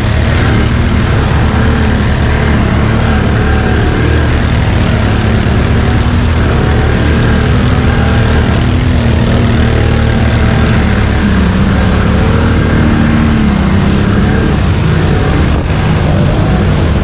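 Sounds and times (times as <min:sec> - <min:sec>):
atv engine running under load: 0:00.0 - 0:17.0.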